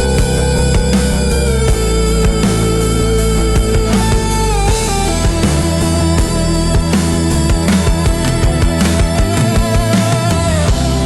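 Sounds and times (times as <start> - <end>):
bass guitar: 0.0 - 11.0
drum hits: 0.0 - 11.0
sustained electric guitar: 0.0 - 11.0.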